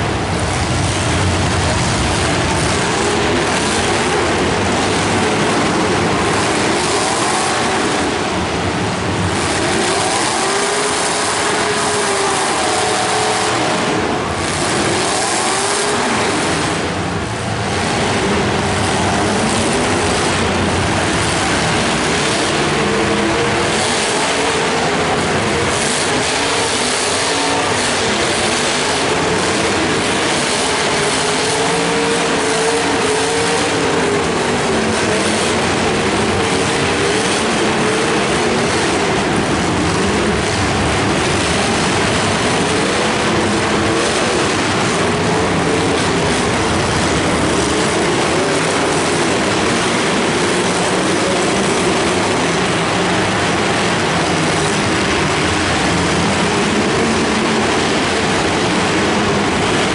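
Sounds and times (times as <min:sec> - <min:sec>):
many car engines revving: 0:00.0 - 0:59.9.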